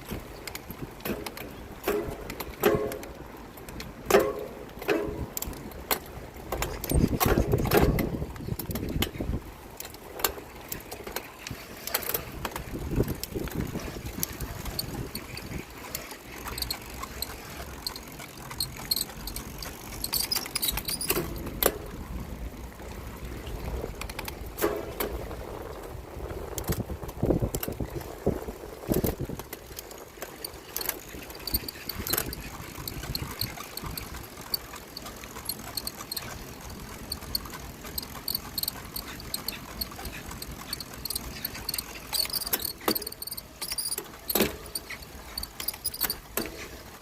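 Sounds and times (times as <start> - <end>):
bicycle rattling over rough ground: 0.0 - 47.0
bicycle rumbling: 0.0 - 47.0
rear hub noise: 0.0 - 47.0.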